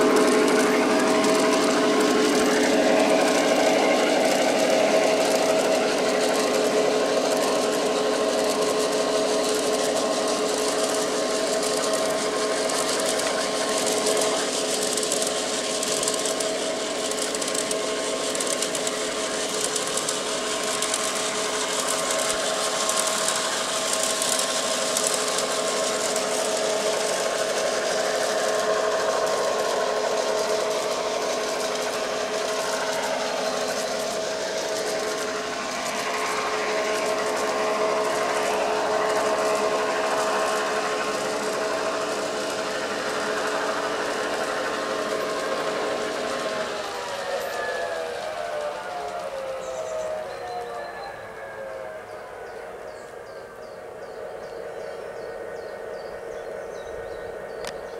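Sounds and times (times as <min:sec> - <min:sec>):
model train motor whine: 0:00.0 - 0:57.9
wheels rolling on rails: 0:00.0 - 0:57.9.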